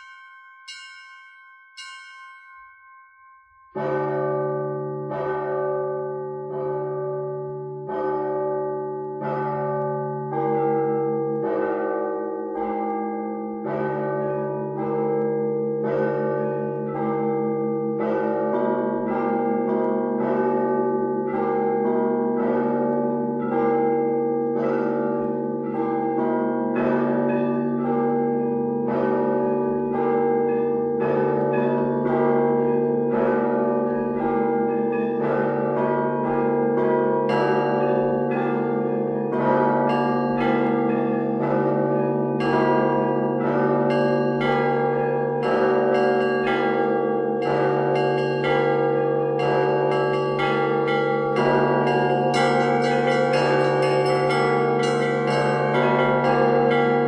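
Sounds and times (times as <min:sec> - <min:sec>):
deep church bell tolling: 0:00.0 - 0:57.0
high church bell ringing: 0:00.0 - 0:57.0.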